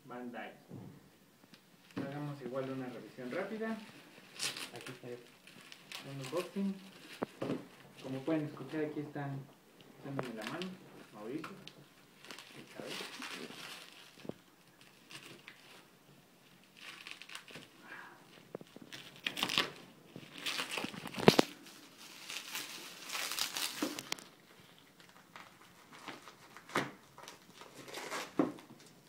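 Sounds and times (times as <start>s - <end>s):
bubble wrap crinkling and tearing: 1.5s - 29.0s.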